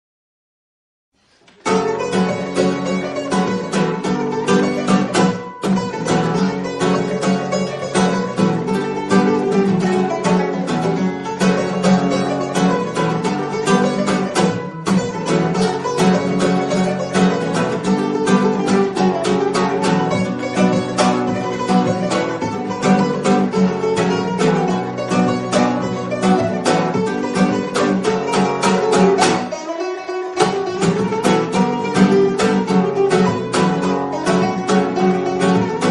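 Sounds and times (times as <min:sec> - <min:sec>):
plucked string instrumental music: 0:01.3 - 0:35.9.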